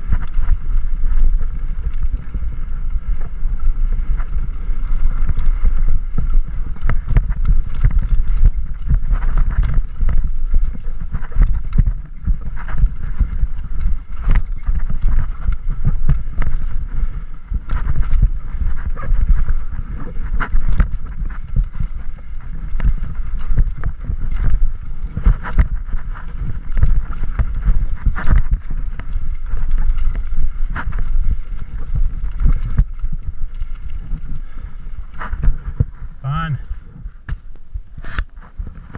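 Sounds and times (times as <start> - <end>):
bike rattling and knocking: 0.0 - 36.0
wind buffeting microphone: 0.0 - 38.9.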